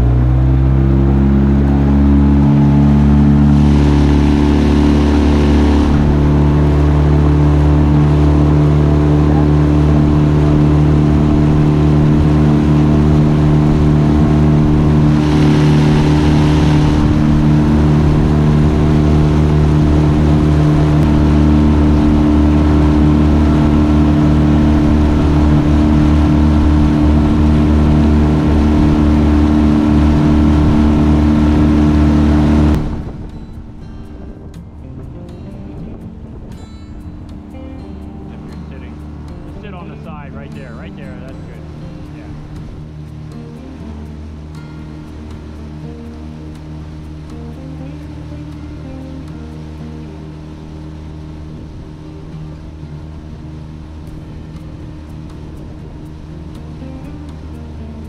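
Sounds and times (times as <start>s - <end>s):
outboard motor running: 0.0s - 58.0s
rushing water hiss: 2.4s - 33.6s, 35.0s - 58.0s.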